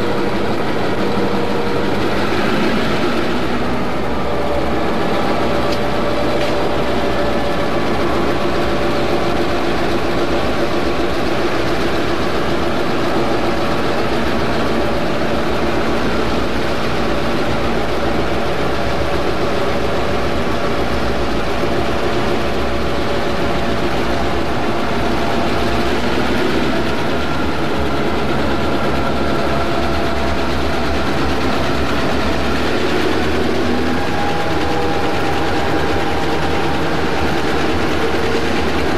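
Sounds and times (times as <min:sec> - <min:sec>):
diesel locomotive engines running: 0:00.0 - 0:38.9.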